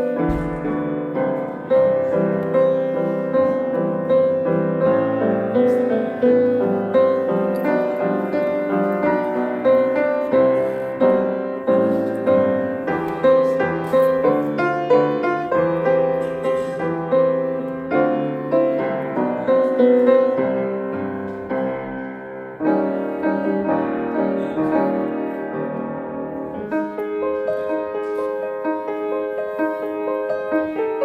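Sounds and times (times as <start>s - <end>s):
slow gentle piano music: 0.0s - 31.0s.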